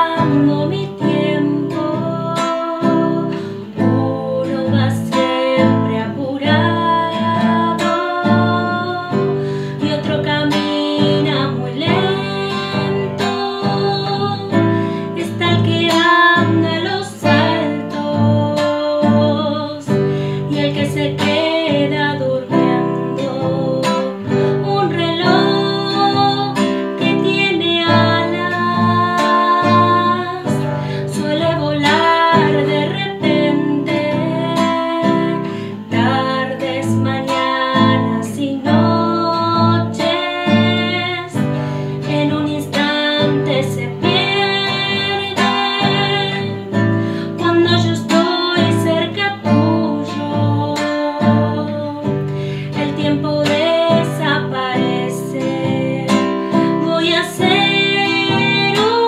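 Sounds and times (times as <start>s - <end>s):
classical guitar strumming: 0.0s - 59.0s
woman singing: 0.0s - 59.0s.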